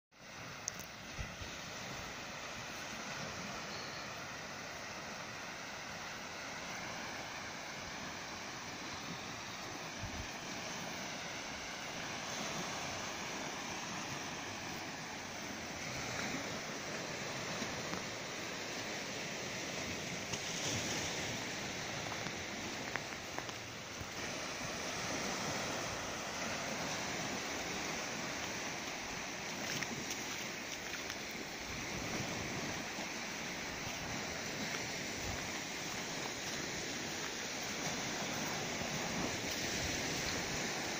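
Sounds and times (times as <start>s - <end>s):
small waves washing onto shore: 0.2s - 40.9s.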